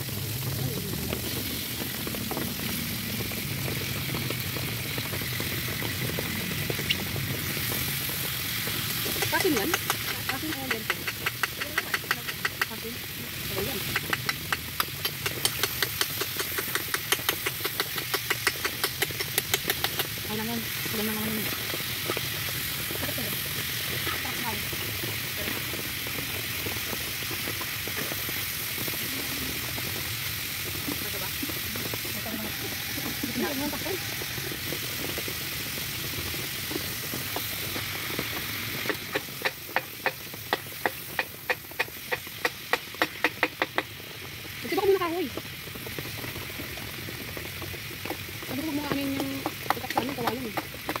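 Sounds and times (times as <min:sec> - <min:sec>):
meat sizzling in a frying pan: 0:00.0 - 0:51.0.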